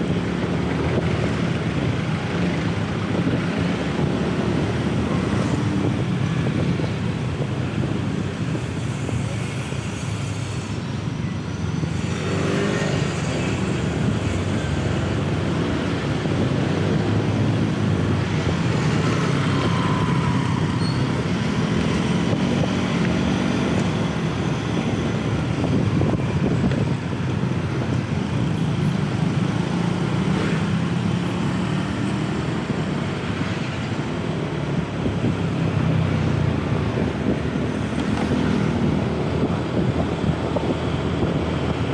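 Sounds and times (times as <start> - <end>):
passing traffic: 0.0 - 41.9
road and wind noise: 0.0 - 41.9.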